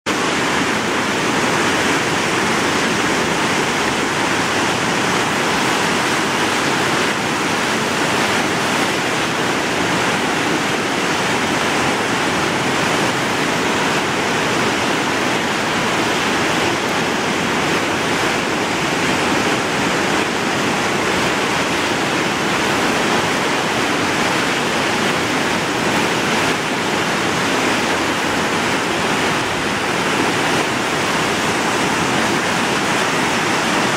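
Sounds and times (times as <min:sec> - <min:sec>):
floodwater rushing and roaring: 0:00.0 - 0:33.9.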